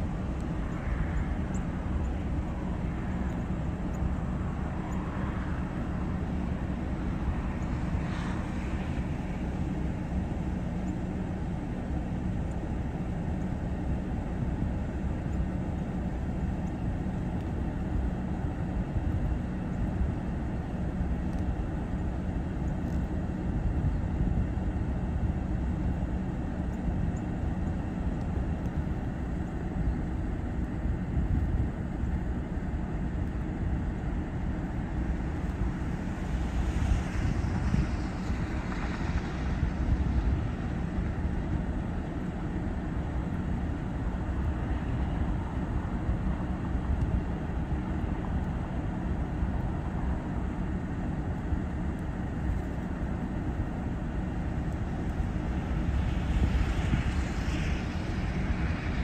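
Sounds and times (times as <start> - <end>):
faint hum: 0.0 - 59.0
low background rumble: 0.0 - 59.0.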